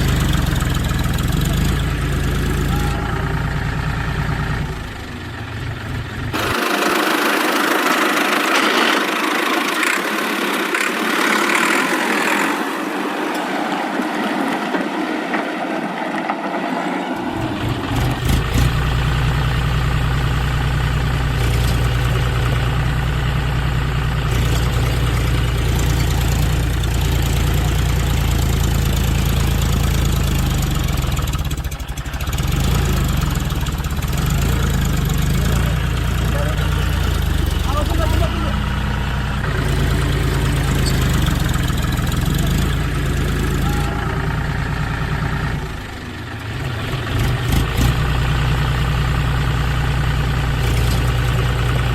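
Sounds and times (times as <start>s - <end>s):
engine running: 0.0s - 51.9s.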